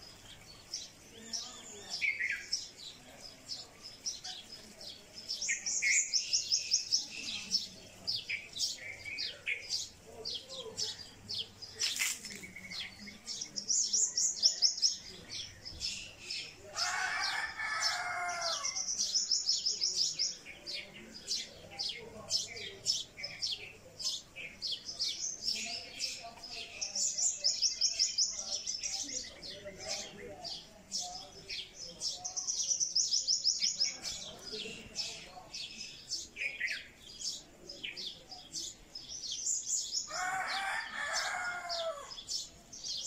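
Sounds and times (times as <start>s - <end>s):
songbirds chirping and singing: 0.0s - 43.0s.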